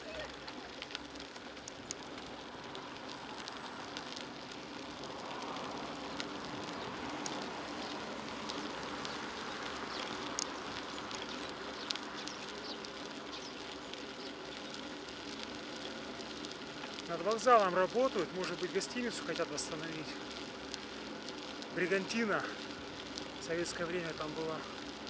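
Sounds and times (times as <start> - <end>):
bicycle tyre and wind noise: 0.0 - 25.0
bike clicks and rattles: 0.0 - 25.0.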